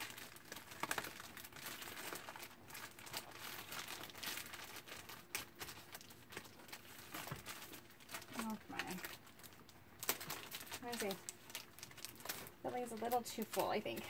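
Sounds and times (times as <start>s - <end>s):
packaging crinkling: 0.0s - 14.0s.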